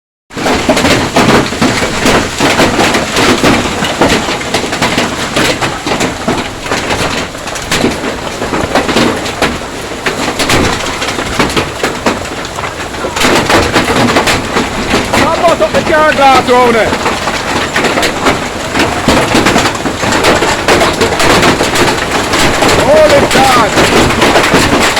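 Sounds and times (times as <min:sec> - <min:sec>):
hailstones striking hard surfaces: 0:00.3 - 0:24.9
rain rushing: 0:00.3 - 0:24.9.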